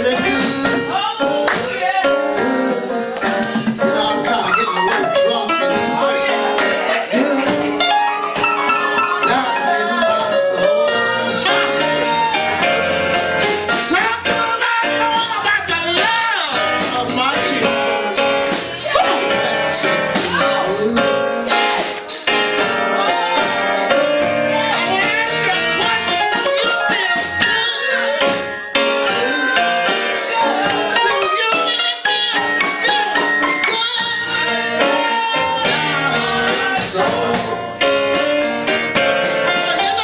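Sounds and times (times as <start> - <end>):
lively instrumental backing: 0.0 - 40.0.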